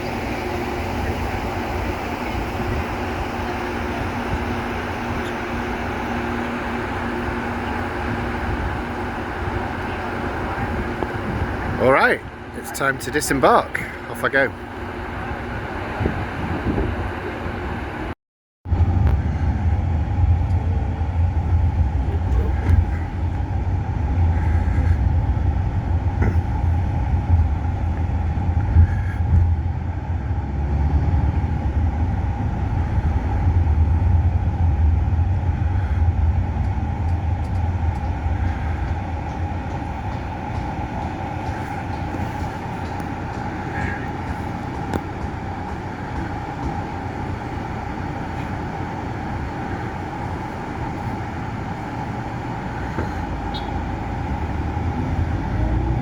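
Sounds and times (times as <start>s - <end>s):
constant hum: 0.0s - 56.0s
vehicle low rumble: 0.0s - 56.0s.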